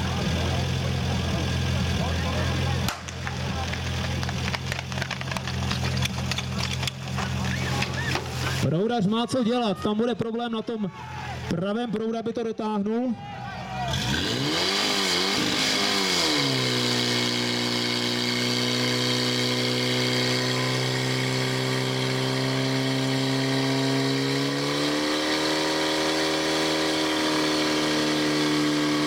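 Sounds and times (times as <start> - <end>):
fire pump engine at high revs: 0.0 - 8.8, 13.7 - 29.0.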